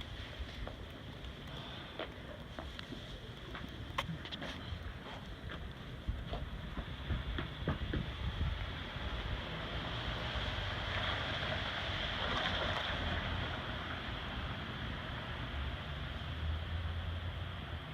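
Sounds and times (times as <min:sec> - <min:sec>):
steady street hiss: 0:00.0 - 0:17.9.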